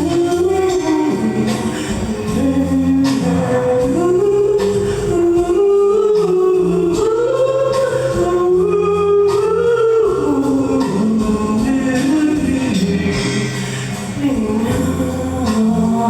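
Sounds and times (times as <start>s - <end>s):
instrumental backing: 0.0s - 16.0s
person singing long notes: 0.0s - 16.0s.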